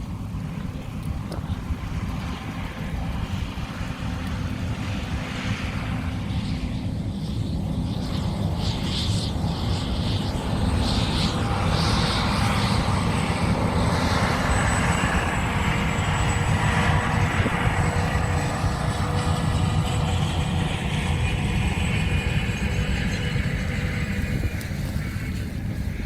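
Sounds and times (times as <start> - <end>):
combine engine droning: 0.0 - 26.0.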